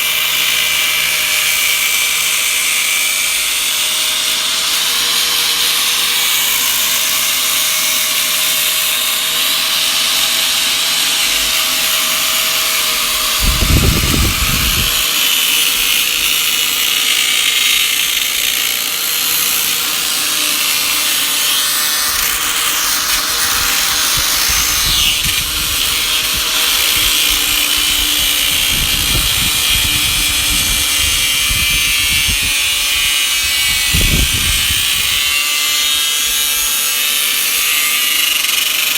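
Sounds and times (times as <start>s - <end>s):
electric grinder grinding metal: 0.0s - 38.9s.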